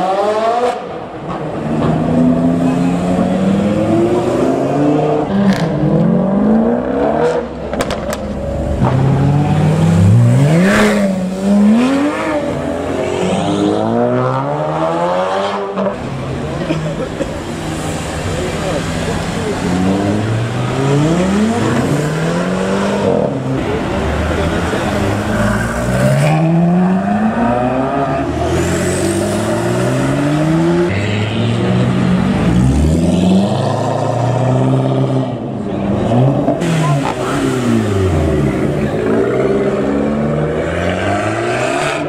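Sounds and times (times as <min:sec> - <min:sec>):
cars accelerating hard: 0:00.0 - 0:42.0.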